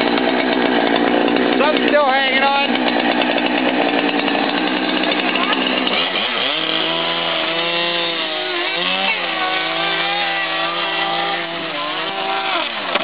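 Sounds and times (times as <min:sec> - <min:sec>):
chainsaw cutting at high revs: 0:00.0 - 0:13.0.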